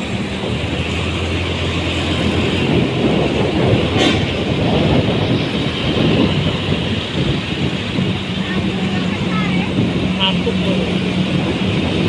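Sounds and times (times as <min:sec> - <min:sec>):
road rumble: 0:00.0 - 0:12.0
vehicle engine drone: 0:00.0 - 0:12.0.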